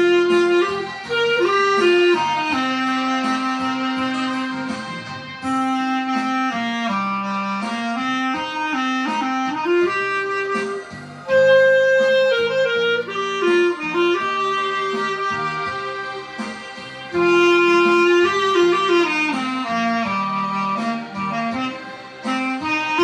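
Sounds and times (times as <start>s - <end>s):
clarinet melody: 0.0s - 23.0s.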